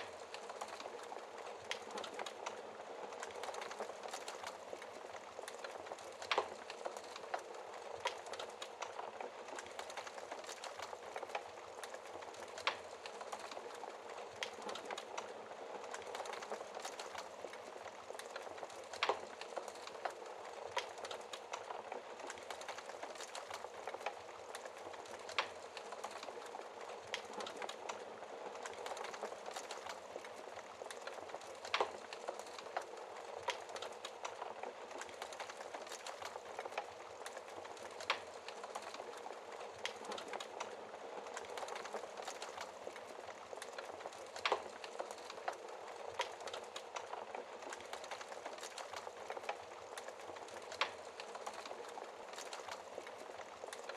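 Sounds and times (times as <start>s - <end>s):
fire snapping loudly: 0.0s - 53.9s
log fire crackling and popping: 0.0s - 53.9s.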